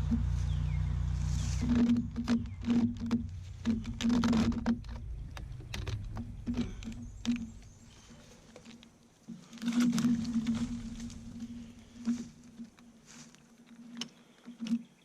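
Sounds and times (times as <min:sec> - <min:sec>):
chain rasping through log: 0:01.3 - 0:14.8.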